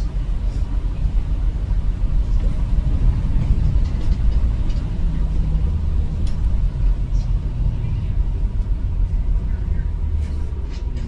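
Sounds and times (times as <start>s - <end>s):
car rumbling on the move: 0.0s - 11.0s.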